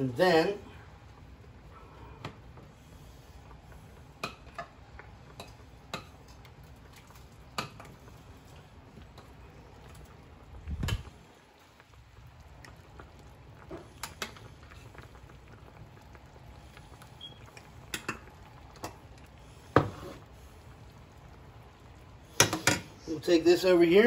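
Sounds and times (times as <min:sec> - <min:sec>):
pot simmering bubbling: 0:00.0 - 0:24.0.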